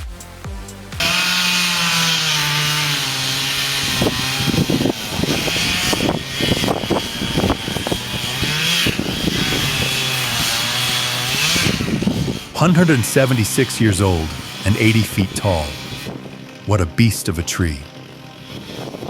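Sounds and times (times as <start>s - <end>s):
chainsaw cutting: 0.0s - 19.0s.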